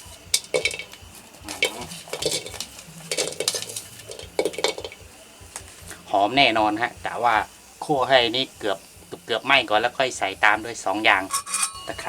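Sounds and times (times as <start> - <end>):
faint sizzle: 0.0 - 12.0
utensil scraping in a pot: 0.0 - 12.0.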